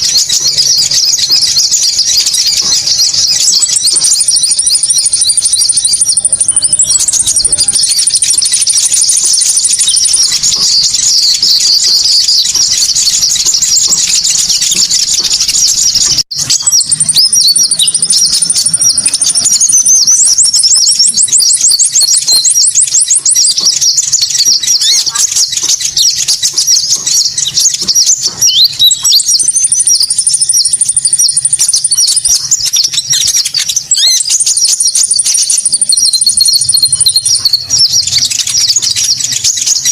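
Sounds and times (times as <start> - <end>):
bird call chattering and chirping: 0.0 - 39.9
fast ticking trill: 0.0 - 39.9
high bird trill: 0.0 - 39.9.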